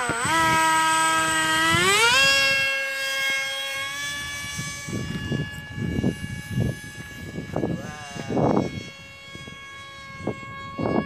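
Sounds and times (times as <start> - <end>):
low rumbling: 0.0 - 11.0
model jet motor whining: 0.0 - 11.0.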